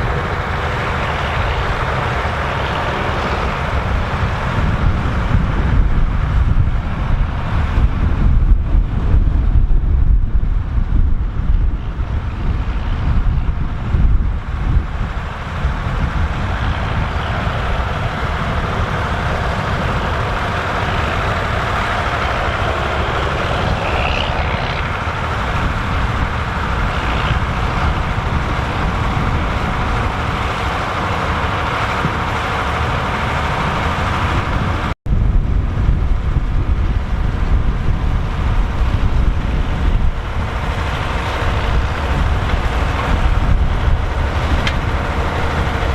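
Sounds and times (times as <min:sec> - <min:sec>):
tractor diesel engine rumbling: 0:00.0 - 0:45.9
wind noise on microphone: 0:00.0 - 0:45.9.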